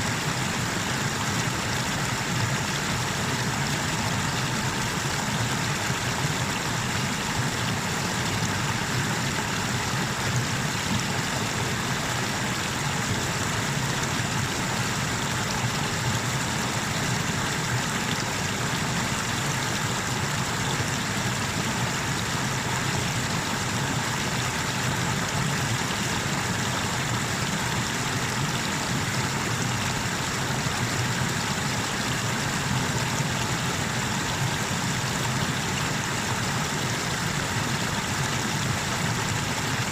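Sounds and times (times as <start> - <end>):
water pouring over waterfall: 0.0 - 39.9.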